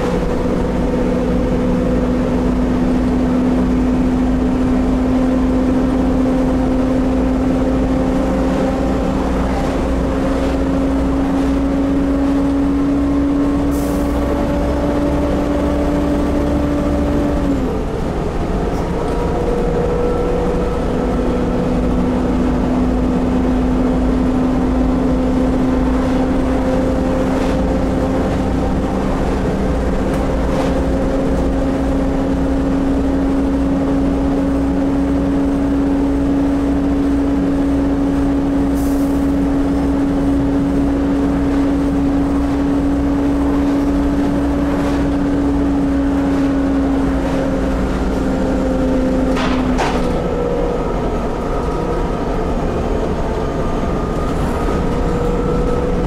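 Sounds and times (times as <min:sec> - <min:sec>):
bus diesel engine rumble: 0:00.0 - 0:56.0
drivetrain whine: 0:00.0 - 0:56.0.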